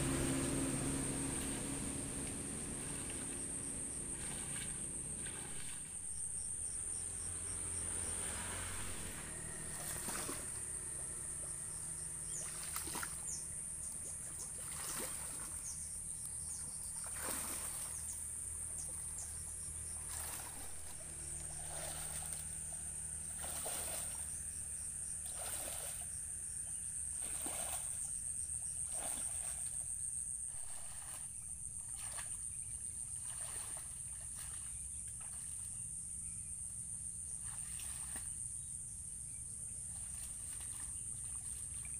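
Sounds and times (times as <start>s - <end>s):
wading through water: 0.0s - 36.4s, 37.2s - 38.5s, 39.2s - 41.9s
insects droning: 0.0s - 41.9s.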